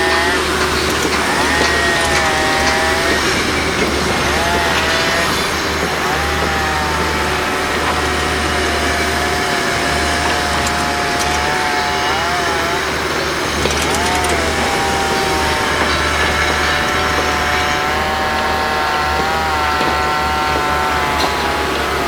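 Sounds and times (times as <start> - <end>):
low engine drone: 0.0 - 22.0
machinery running loudly: 0.0 - 22.0.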